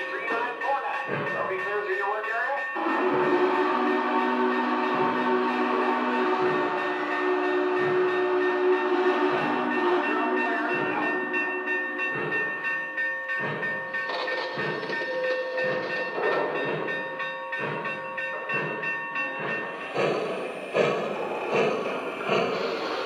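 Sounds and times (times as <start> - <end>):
model steam train chuffs: 0.0 - 23.0
train wheels rolling: 0.0 - 23.0.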